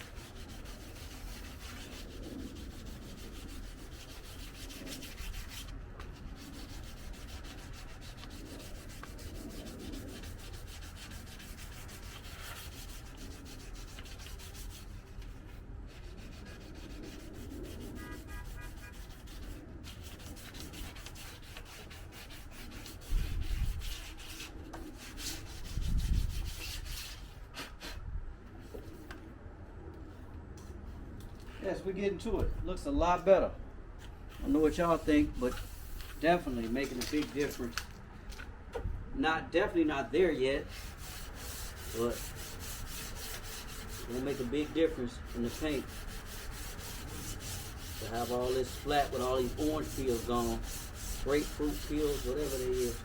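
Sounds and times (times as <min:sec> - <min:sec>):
sandpaper rasping on car paint: 0:00.0 - 0:28.0, 0:34.3 - 0:37.8, 0:40.0 - 0:53.0.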